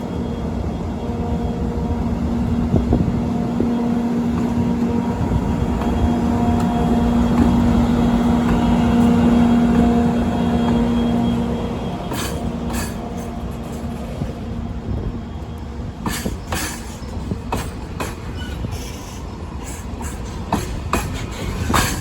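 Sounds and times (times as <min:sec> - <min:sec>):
electric locomotive humming: 0:00.0 - 0:22.0.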